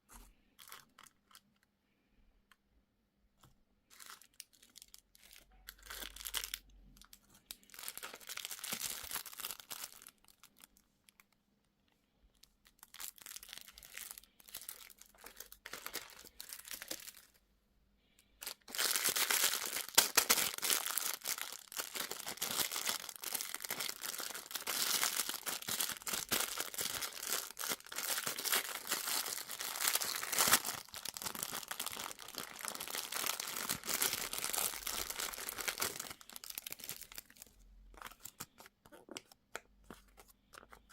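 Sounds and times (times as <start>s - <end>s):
plastic packaging crinkling and tearing: 0.6s - 1.6s, 3.9s - 11.3s, 12.4s - 17.4s, 18.4s - 40.9s.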